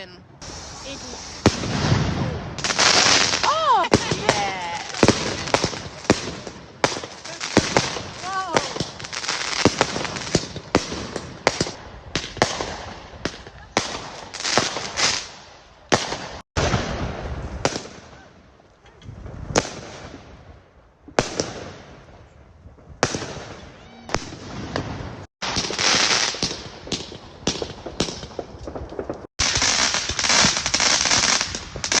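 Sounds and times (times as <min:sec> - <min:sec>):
fireworks crackling: 0:00.0 - 0:32.0
fireworks bangs with rumble: 0:00.4 - 0:18.2, 0:19.1 - 0:20.4, 0:21.1 - 0:32.0.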